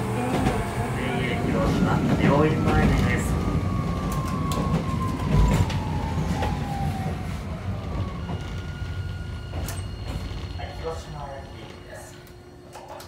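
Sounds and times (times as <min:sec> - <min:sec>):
tram motor whine: 0:00.0 - 0:13.0.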